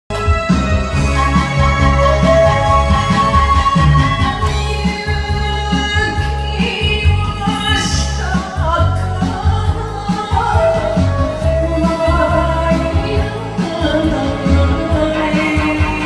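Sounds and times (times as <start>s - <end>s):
backing track with steady beat: 0.1s - 16.0s
woman singing into microphone: 0.2s - 16.0s.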